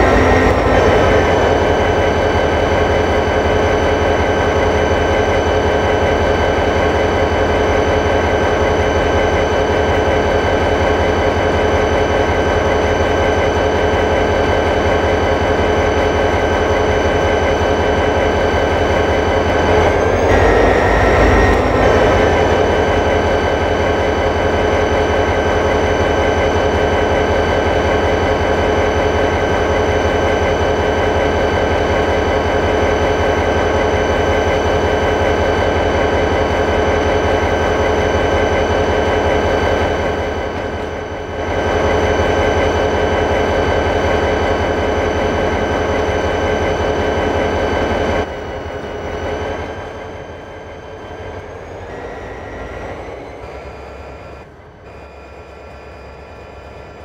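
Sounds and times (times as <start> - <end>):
whining tones: 0.0 - 30.6, 37.4 - 57.0
train rumbling: 0.0 - 55.1.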